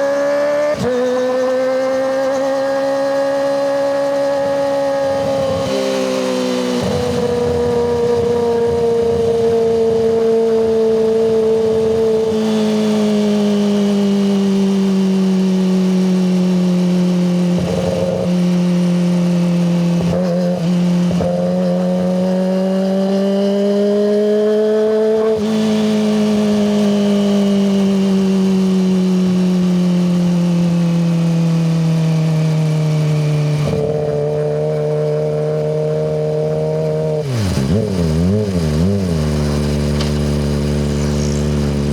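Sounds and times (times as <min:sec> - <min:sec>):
motorcycle engine at high revs: 0:00.0 - 0:41.9.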